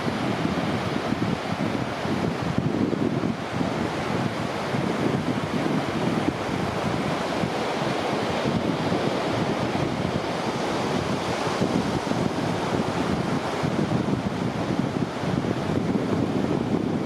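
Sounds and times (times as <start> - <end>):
surf washing onto beach: 0.0 - 17.0
wind buffeting microphone: 0.0 - 17.0.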